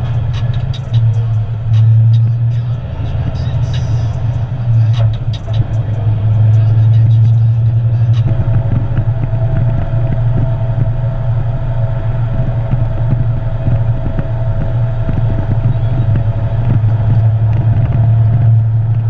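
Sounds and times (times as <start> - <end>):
thin steady whine: 0.0 - 19.0
truck diesel engine drone: 0.0 - 19.0.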